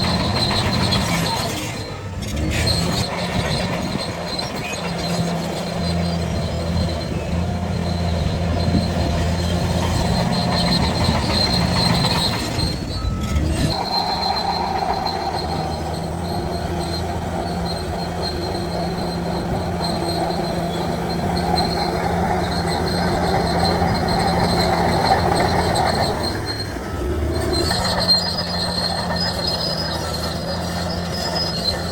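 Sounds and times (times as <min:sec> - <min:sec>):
bulldozer diesel engine: 0:00.0 - 0:31.9
steel tracks squealing and clanking: 0:00.0 - 0:31.9.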